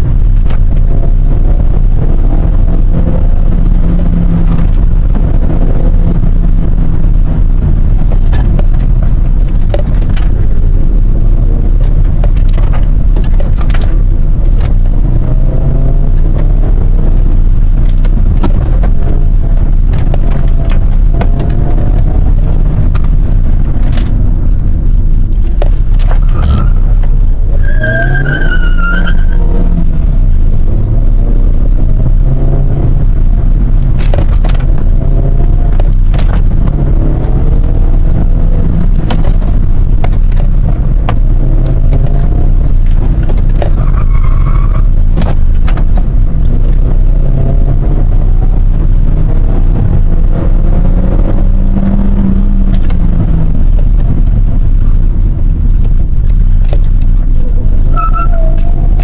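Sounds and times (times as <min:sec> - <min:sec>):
car engine revving: 0:00.0 - 0:59.0
heavy low rumble: 0:00.0 - 0:59.0.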